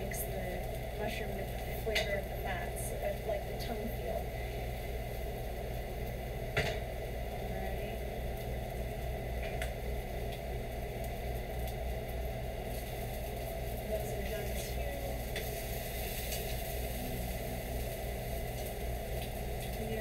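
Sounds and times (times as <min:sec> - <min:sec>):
mushrooms sizzling in oil: 0:00.0 - 0:20.0
steady low hum: 0:00.0 - 0:20.0.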